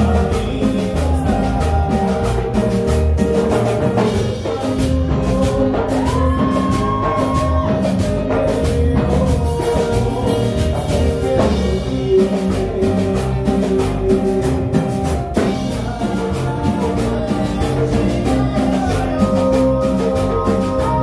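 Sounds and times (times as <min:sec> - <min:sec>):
drum kit beat: 0:00.0 - 0:21.0
live band playing: 0:00.0 - 0:21.0.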